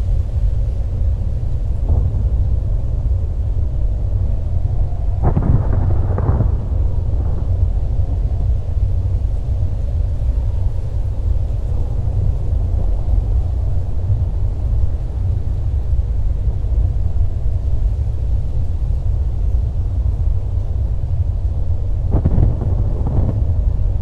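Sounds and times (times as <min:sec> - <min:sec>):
deep low rumble: 0:00.0 - 0:24.0.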